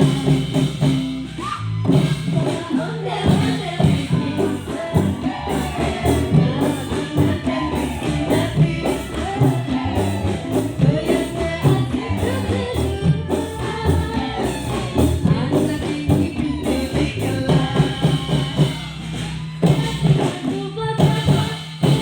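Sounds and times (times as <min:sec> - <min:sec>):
band over sound system: 0:00.0 - 0:20.4.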